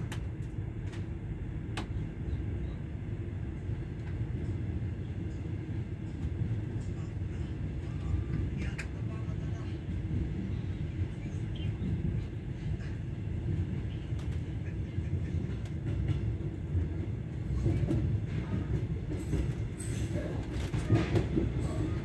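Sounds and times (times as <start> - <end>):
train rumbling on track: 0.0 - 22.0.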